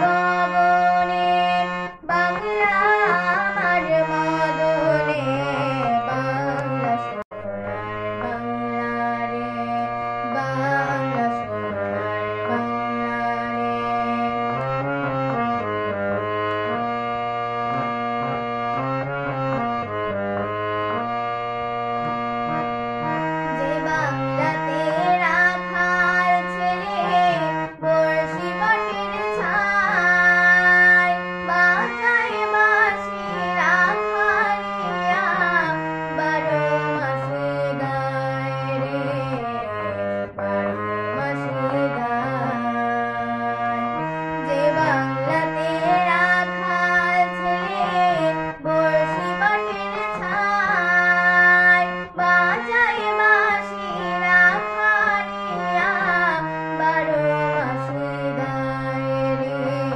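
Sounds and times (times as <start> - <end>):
girl singing: 0.0 - 7.5, 8.2 - 14.4, 23.5 - 40.0, 40.7 - 43.6, 44.4 - 59.9
harmonium chords and melody: 0.0 - 59.9.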